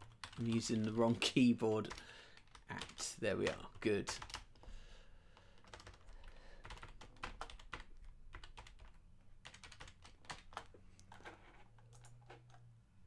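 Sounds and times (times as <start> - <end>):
typing on computer keyboard: 0.0 - 4.5, 5.4 - 12.6.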